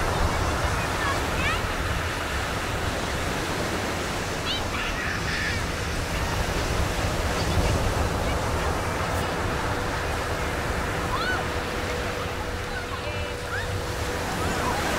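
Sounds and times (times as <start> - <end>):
ocean surf breaking: 0.0 - 14.9.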